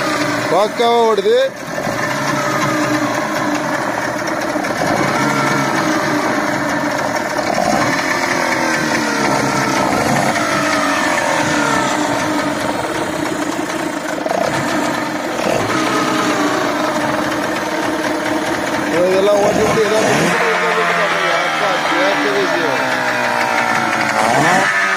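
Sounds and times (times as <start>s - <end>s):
small outboard motor running: 0.0s - 24.9s.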